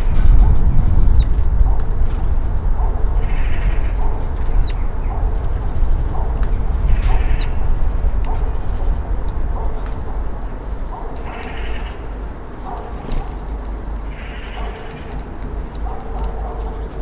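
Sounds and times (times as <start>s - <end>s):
birds chirping: 0.0s - 17.0s
low rumble: 0.0s - 17.0s.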